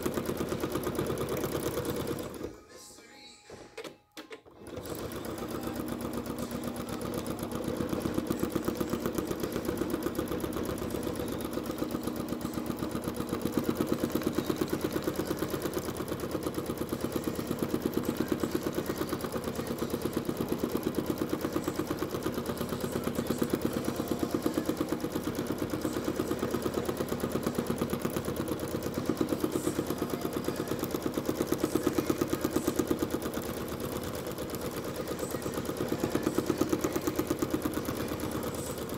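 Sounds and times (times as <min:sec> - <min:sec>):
sewing machine stitching: 0:00.0 - 0:02.6, 0:03.6 - 0:38.9.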